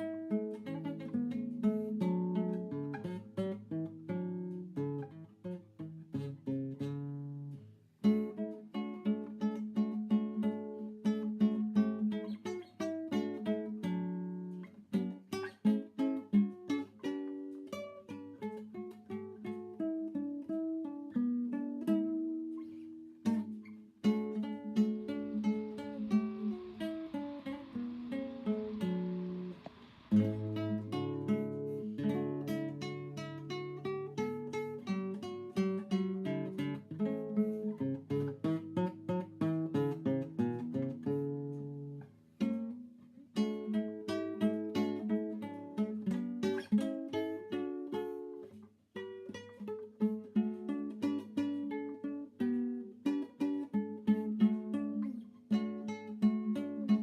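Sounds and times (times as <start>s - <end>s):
plucked acoustic guitar melody: 0.0s - 57.0s
soft hiss: 0.0s - 57.0s.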